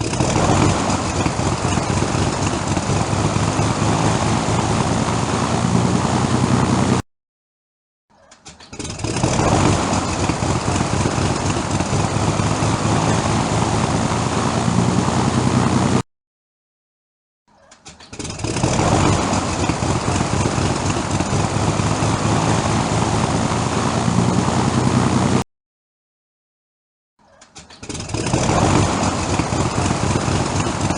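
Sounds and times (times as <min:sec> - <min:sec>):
propeller aircraft engine starting: 0:00.0 - 0:07.0, 0:08.3 - 0:16.0, 0:17.8 - 0:25.4, 0:27.4 - 0:30.9.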